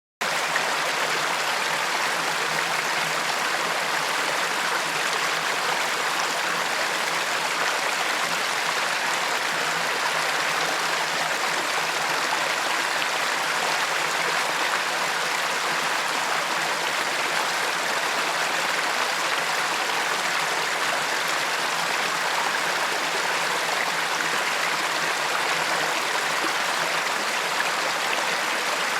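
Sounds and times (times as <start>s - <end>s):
river water rushing and gurgling: 0.2s - 28.9s.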